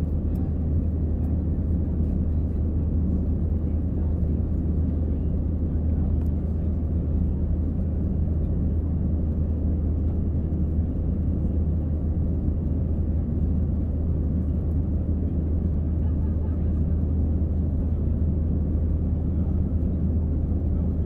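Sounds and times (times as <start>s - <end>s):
aircraft engines rumbling: 0.0s - 21.0s.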